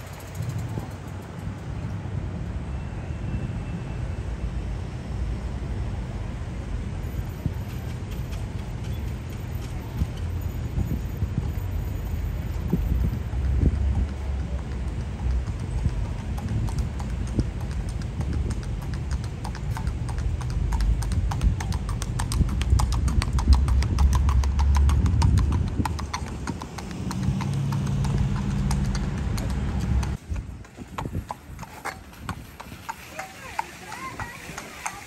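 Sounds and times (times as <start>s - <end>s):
hooves clip-clopping on asphalt: 0.0s - 1.9s, 7.1s - 35.0s.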